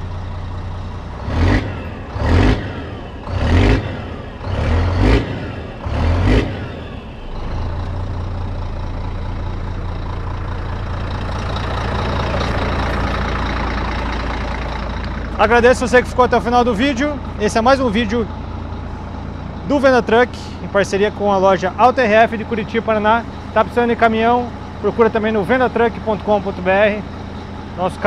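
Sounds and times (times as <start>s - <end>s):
diesel engine idling: 0.0s - 28.0s
diesel engine revving: 0.0s - 28.0s.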